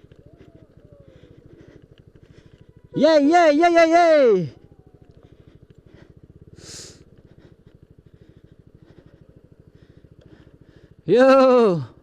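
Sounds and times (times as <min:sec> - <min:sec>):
scooter engine running at low revs: 0:00.0 - 0:12.0.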